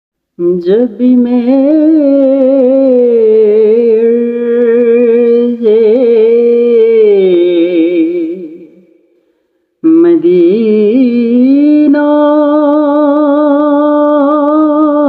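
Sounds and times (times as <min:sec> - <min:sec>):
person singing unaccompanied: 0:00.4 - 0:08.8, 0:09.8 - 0:15.0.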